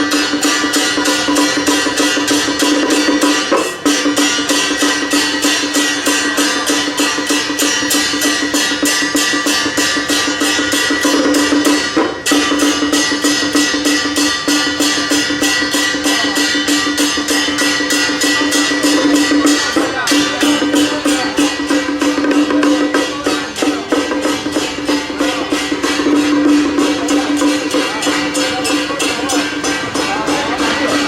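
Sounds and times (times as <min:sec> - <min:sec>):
fast percussion beating: 0:00.0 - 0:31.0.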